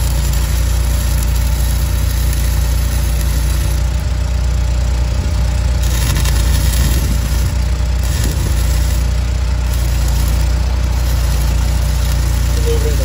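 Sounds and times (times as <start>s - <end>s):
engine humming: 0.0s - 13.0s
welding arc crackling: 0.0s - 13.0s.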